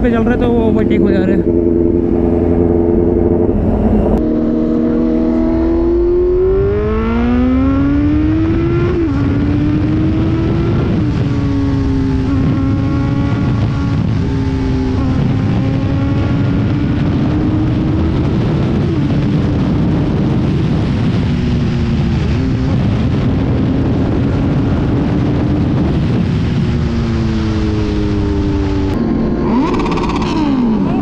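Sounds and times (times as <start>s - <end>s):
motorcycle engine accelerating: 0.0s - 31.0s
wind and road noise: 0.0s - 31.0s.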